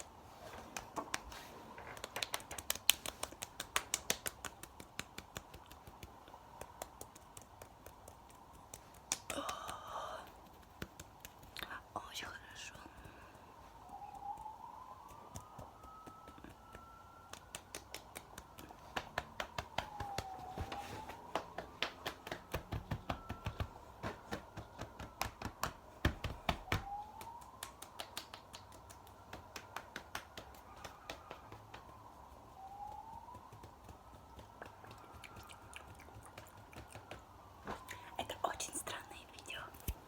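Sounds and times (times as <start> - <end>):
rapid close-miked clicks and taps: 0.8 - 12.0, 12.8 - 40.0.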